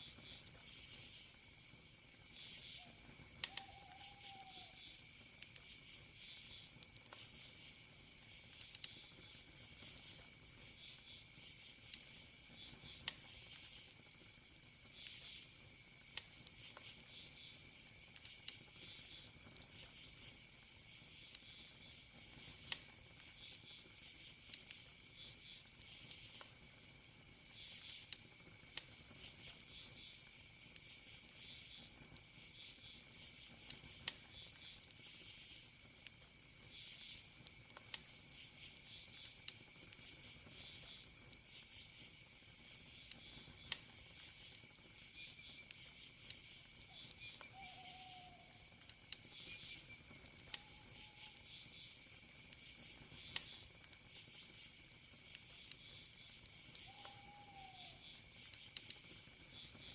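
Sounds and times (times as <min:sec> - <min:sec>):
campfire crackling and popping: 0:00.0 - 0:59.9
crickets trilling: 0:00.0 - 0:59.9
insect chirps: 0:00.0 - 0:59.9.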